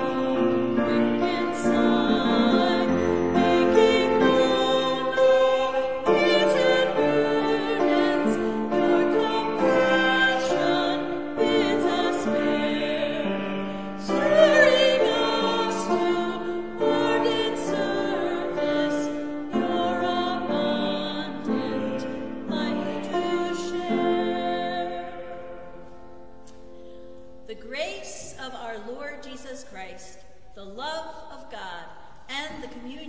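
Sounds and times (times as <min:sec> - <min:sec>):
woman singing a hymn: 0:00.0 - 0:26.0, 0:27.5 - 0:33.0
voices singing a slow hymn: 0:00.0 - 0:27.0.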